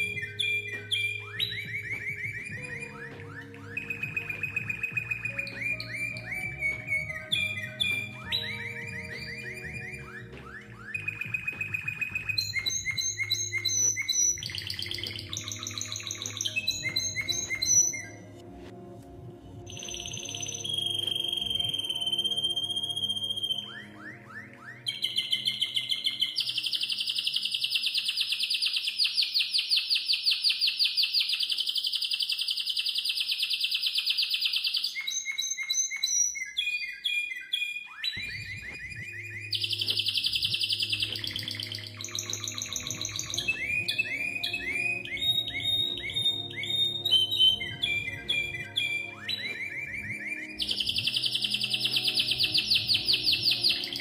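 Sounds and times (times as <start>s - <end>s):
canary singing trills: 0.0s - 18.4s, 19.7s - 54.0s.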